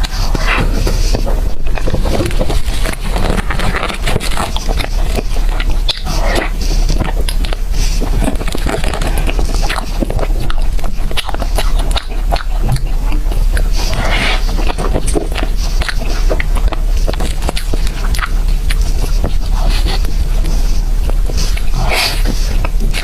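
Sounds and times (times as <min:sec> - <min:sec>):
person chewing cake: 0:00.0 - 0:23.0
steady low hum: 0:00.0 - 0:23.0.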